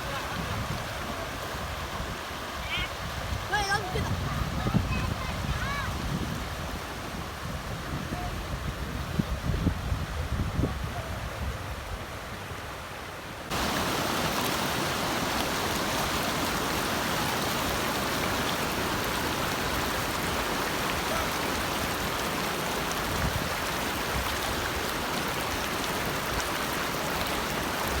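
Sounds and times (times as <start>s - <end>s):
water rushing: 0.0s - 28.0s.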